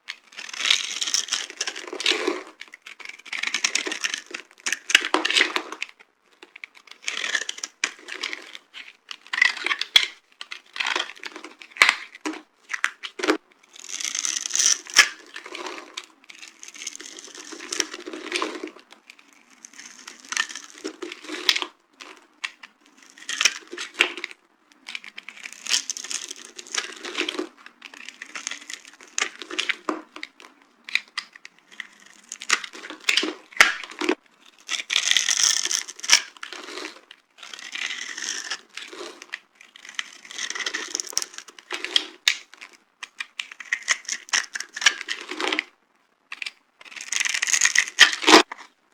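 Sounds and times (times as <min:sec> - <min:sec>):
bar soap crunching and crackling: 0:00.0 - 0:48.8.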